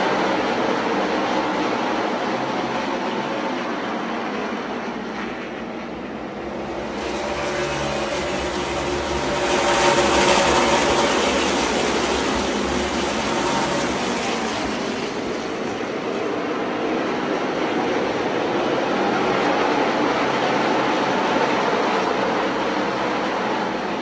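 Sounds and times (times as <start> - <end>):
race cars passing: 0.0 - 24.0.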